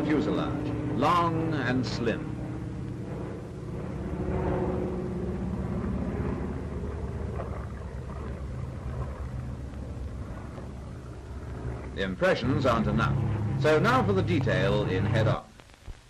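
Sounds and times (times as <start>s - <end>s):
aircraft piston engines droning: 0.0s - 15.5s.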